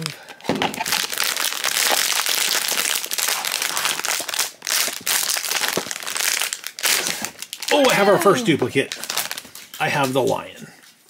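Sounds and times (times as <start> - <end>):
foil bag crinkling: 0.2 - 8.1, 8.7 - 10.2.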